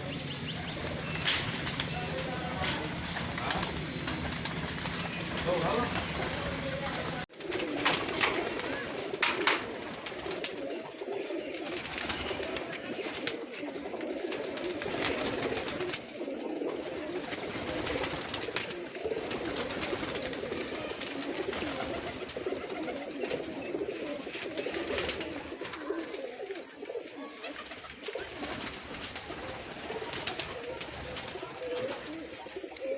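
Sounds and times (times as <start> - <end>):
pigeons cooing: 0.0 - 32.9.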